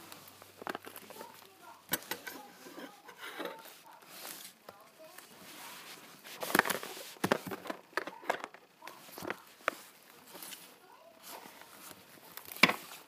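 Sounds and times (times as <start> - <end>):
candy package rustling and clicking: 0.0 - 13.0.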